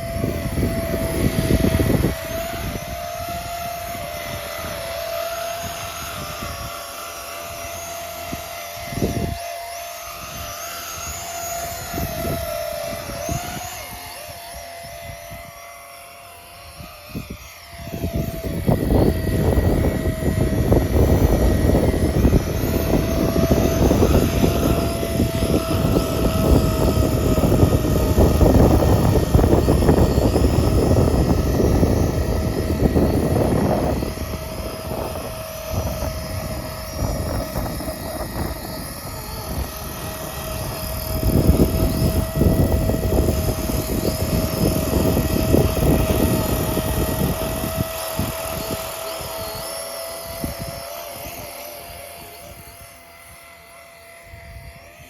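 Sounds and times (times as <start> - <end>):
wind rumbling on microphone: 0.0 - 15.7, 16.6 - 53.4, 54.2 - 55.0
rc helicopter rotor whine: 0.0 - 55.0.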